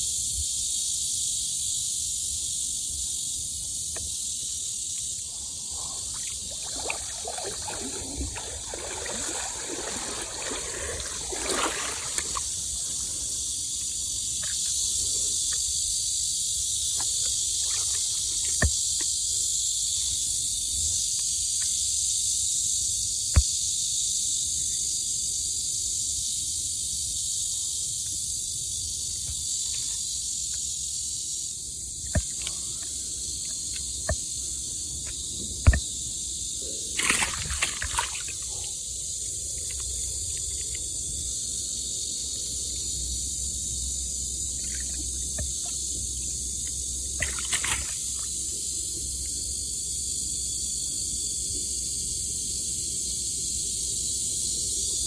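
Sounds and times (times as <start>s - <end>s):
high-pitched outdoor hiss: 0.0s - 55.0s.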